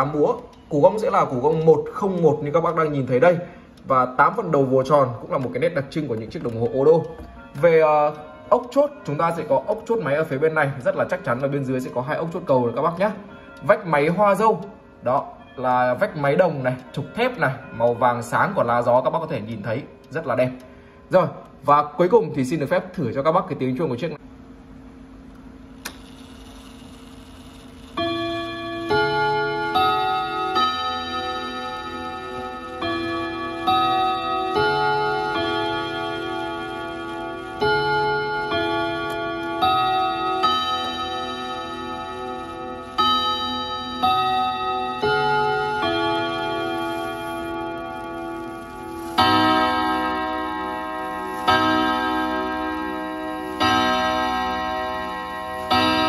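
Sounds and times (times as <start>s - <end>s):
chime clock gong rods ringing: 0.0s - 20.9s, 25.8s - 56.0s.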